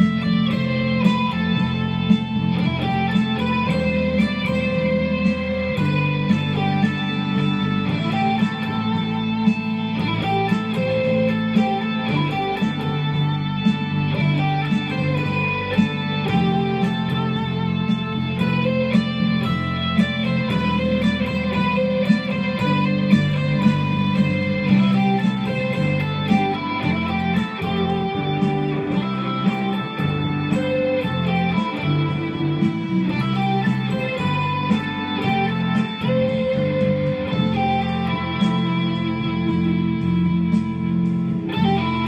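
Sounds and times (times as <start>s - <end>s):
electric guitar lead lines: 0.0s - 42.0s
lower accompaniment: 0.0s - 42.0s.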